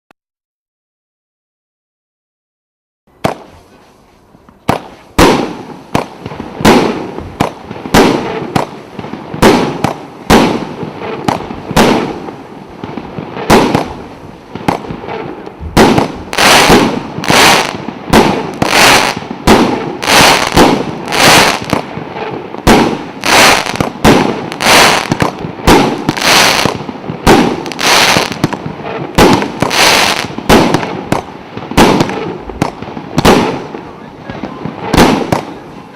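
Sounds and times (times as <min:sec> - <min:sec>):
firework battery firing: 0:04.7 - 0:35.6.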